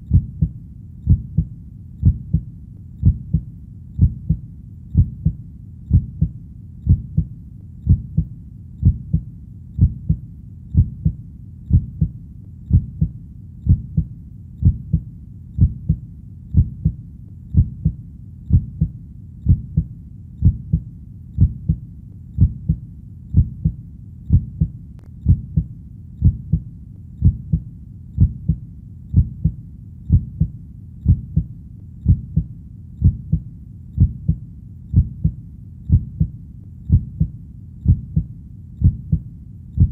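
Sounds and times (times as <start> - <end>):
heartbeat thumping: 0.0 - 21.8, 22.4 - 39.9.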